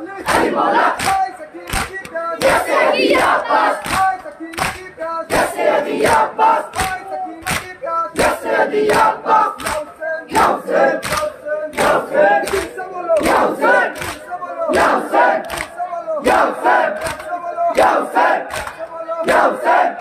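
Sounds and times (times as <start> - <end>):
men chanting in unison: 0.0 - 20.0
hands slapping chests: 0.3 - 19.6.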